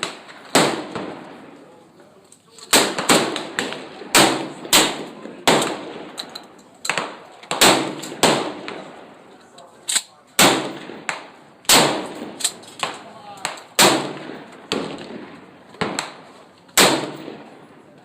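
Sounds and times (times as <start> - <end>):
gunshots echoing: 0.0 - 1.6, 2.7 - 9.3, 10.4 - 17.9.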